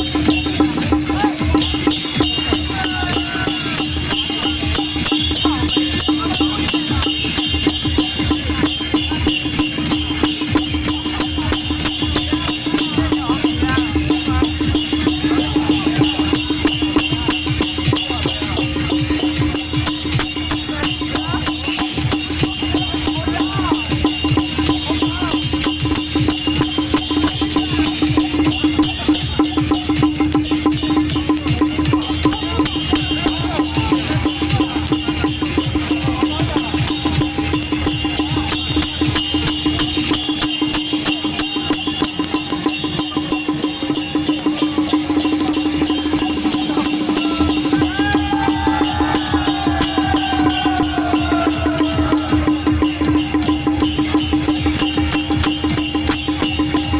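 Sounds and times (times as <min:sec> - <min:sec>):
clappers: 0:00.0 - 0:56.9
cymbals: 0:00.0 - 0:56.9
drums: 0:00.0 - 0:56.9.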